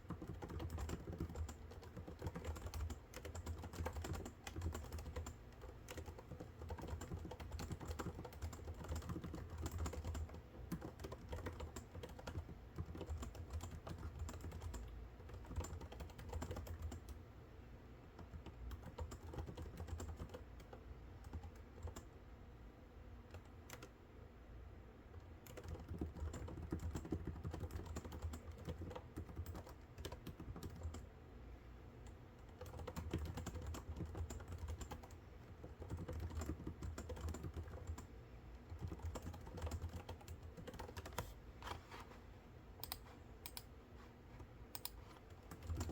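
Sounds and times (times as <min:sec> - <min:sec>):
typing on computer keyboard: 0:00.0 - 0:17.2, 0:18.2 - 0:22.1, 0:23.3 - 0:24.0, 0:25.2 - 0:31.1, 0:32.0 - 0:41.3, 0:42.8 - 0:43.7, 0:44.7 - 0:45.9.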